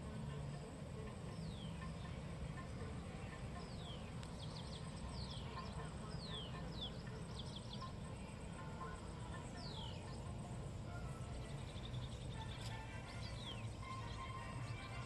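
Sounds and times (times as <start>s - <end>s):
steady low background rumble: 0.0s - 15.0s.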